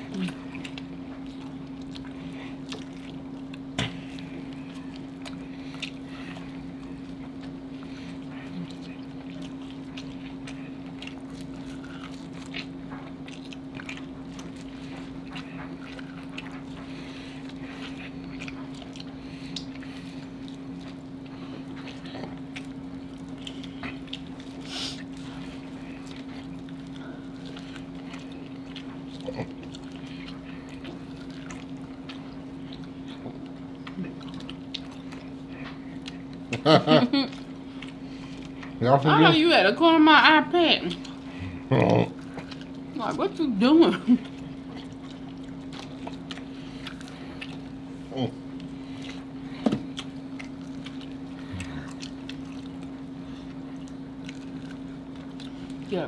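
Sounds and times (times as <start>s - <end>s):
people chewing: 0.0s - 56.0s
steady low hum: 0.0s - 56.0s.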